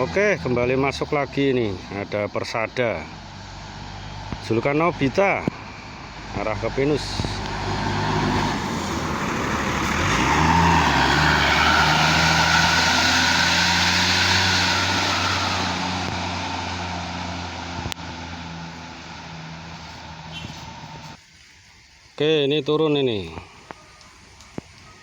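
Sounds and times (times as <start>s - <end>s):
bus diesel engine passing: 0.0s - 21.2s.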